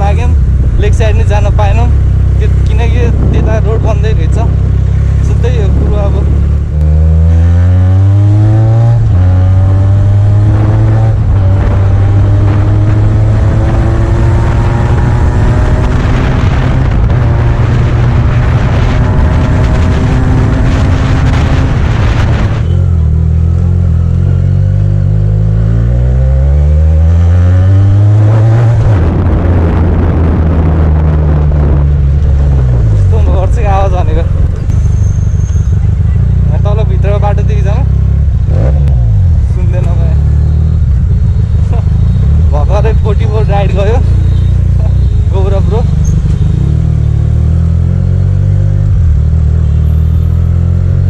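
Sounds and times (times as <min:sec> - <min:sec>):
motorcycle engine accelerating: 0:00.0 - 0:51.0.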